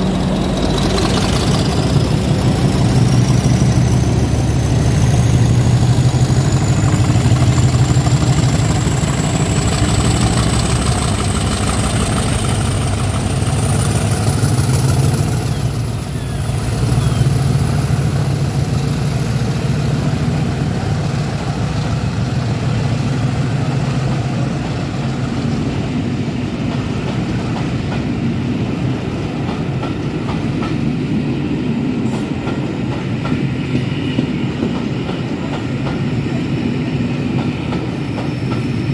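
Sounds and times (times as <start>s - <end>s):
diesel locomotive engine drone: 0.0s - 38.9s
train wheels clicking over rail joints: 0.0s - 38.9s.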